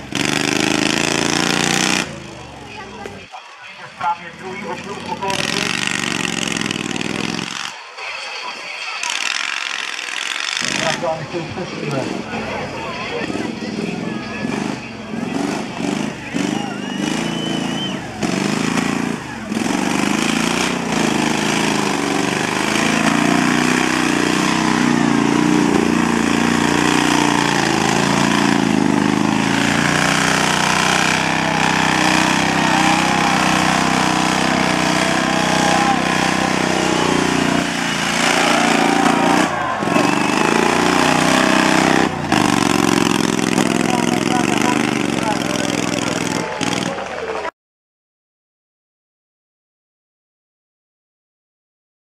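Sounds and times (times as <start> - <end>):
lawn mower engine running: 0.0 - 7.8, 9.0 - 47.4
faint voices: 2.1 - 20.1, 20.7 - 47.5.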